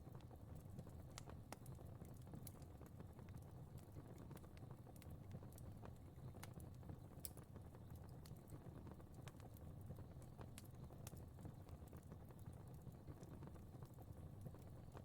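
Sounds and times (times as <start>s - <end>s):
faint fire crackling: 0.0s - 15.0s.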